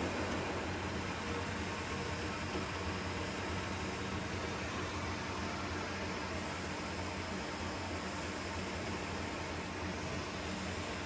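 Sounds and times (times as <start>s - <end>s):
lathe humming and whirring: 0.0s - 11.0s.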